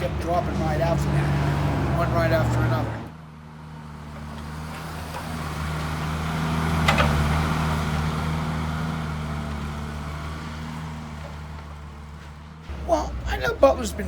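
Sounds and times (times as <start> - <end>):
large engine humming: 0.0 - 14.0.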